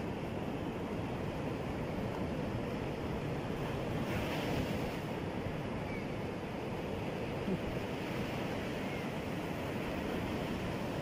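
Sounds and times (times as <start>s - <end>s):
surf breaking on beach: 0.0s - 5.7s, 6.8s - 11.0s.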